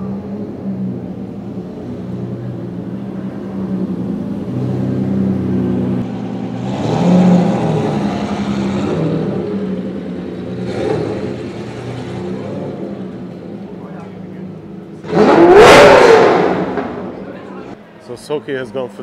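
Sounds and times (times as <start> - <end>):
sports car engine with loud exhaust: 0.0 - 17.8.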